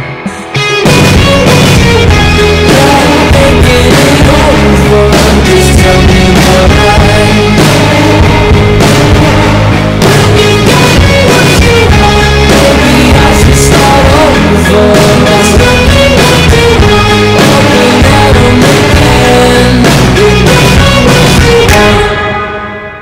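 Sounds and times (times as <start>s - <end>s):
rock song with singer: 0.0s - 23.0s.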